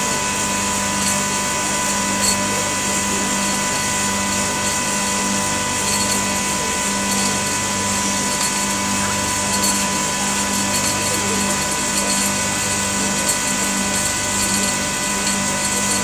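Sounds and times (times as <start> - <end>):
hoist motor humming and whining: 0.0 - 16.0.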